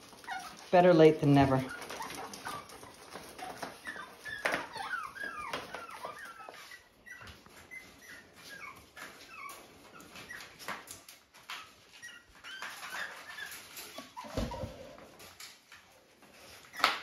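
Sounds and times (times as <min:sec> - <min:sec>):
puppies whining and whimpering: 0:00.0 - 0:17.0.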